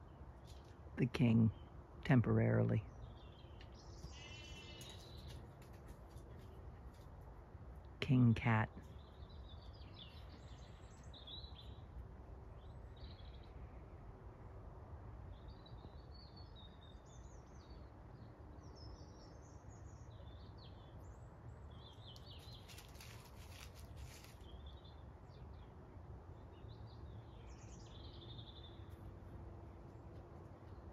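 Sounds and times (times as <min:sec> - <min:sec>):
small birds chirping: 0:00.0 - 0:07.2, 0:08.1 - 0:13.6, 0:15.3 - 0:25.7, 0:26.4 - 0:30.9.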